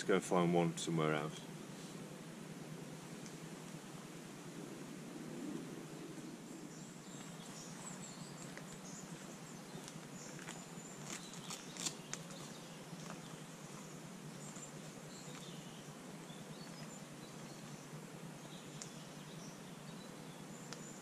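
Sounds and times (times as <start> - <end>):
low background hiss: 0.0 - 21.0.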